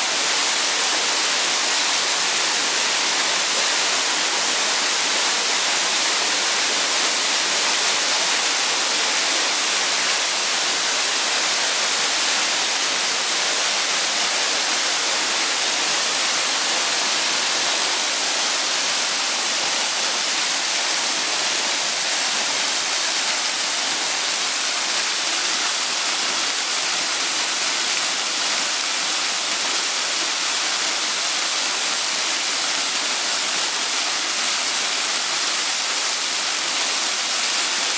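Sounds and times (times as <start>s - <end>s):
waterfall hiss: 0.0s - 37.9s.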